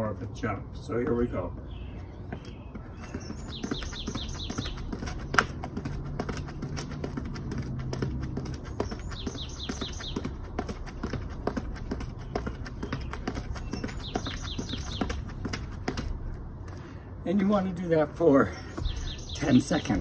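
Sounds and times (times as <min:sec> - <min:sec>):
sneakers tapping on concrete: 0:00.2 - 0:16.9, 0:18.5 - 0:20.0.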